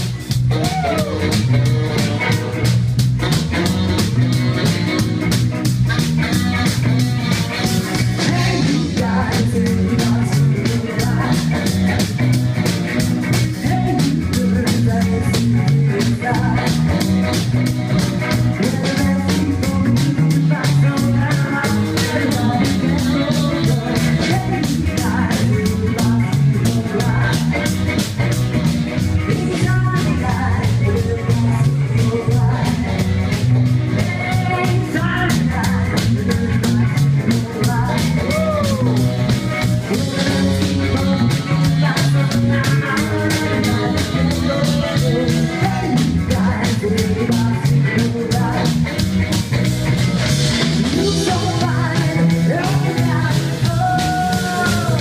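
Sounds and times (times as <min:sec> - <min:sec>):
person singing: 0:00.0 - 0:05.3, 0:06.0 - 0:49.3, 0:50.5 - 0:55.0
electric guitar: 0:00.0 - 0:55.0
rock band playing live: 0:00.0 - 0:55.0
steady drum beat: 0:00.0 - 0:55.0.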